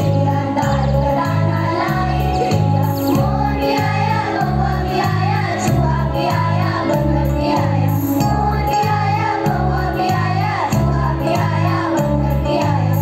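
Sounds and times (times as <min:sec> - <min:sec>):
children's choir singing: 0:00.0 - 0:13.0
upbeat backing track: 0:00.0 - 0:13.0.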